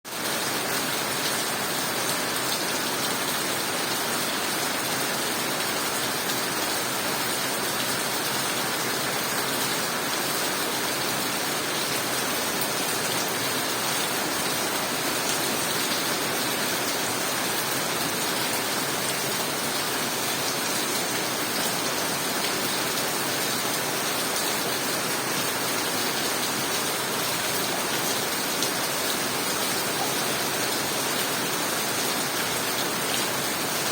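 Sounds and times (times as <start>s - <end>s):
rain falling steadily: 0.1s - 33.9s.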